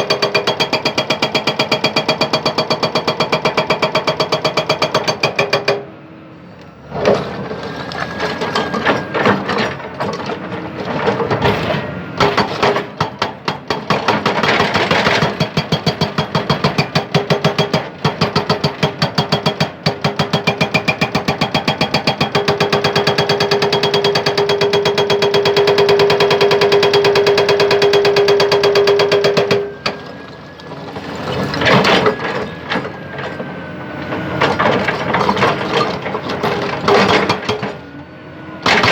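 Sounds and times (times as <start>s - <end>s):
hydraulic breaker hammering rock: 0.0s - 6.0s, 7.0s - 37.9s, 38.6s - 38.9s.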